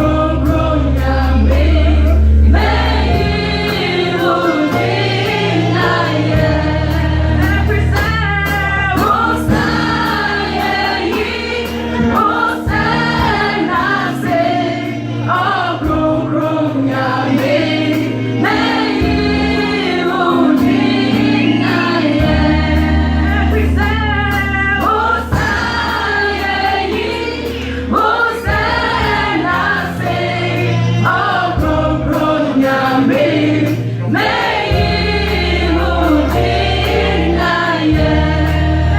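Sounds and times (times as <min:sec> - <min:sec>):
gospel choir singing: 0:00.0 - 0:38.9
instrumental accompaniment with bass: 0:00.0 - 0:38.9.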